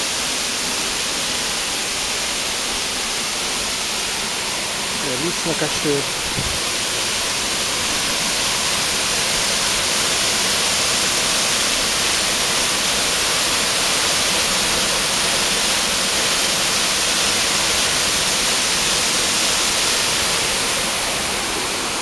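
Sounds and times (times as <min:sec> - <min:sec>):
waterfall pouring into pool: 0:00.0 - 0:22.0.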